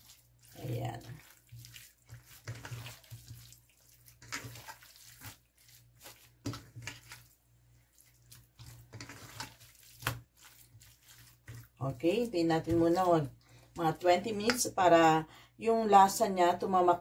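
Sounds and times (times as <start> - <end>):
wet squishing of kneaded meat: 0.0 - 14.8.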